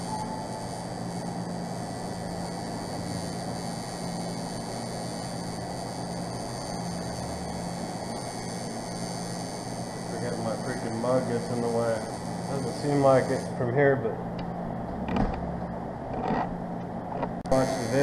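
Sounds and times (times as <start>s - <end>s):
tattoo machine buzzing: 0.0s - 14.0s, 16.1s - 18.0s.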